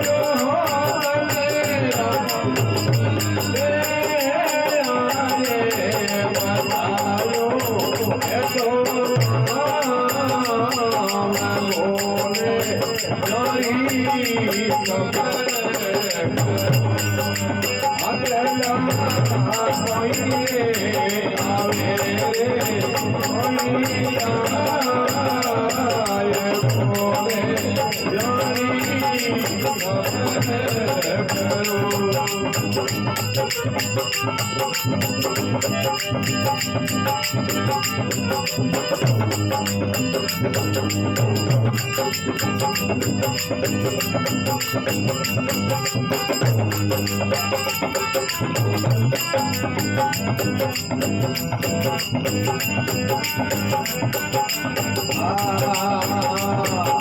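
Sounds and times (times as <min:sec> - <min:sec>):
jingling rattling percussion: 0:00.0 - 0:57.0
wavering instrumental melody: 0:00.0 - 0:57.0.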